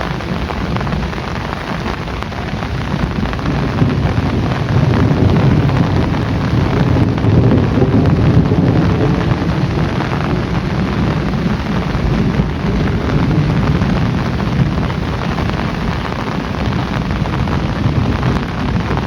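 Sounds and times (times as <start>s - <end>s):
heavy rain pouring: 0.0s - 19.0s
thunder rumbling: 0.0s - 19.0s.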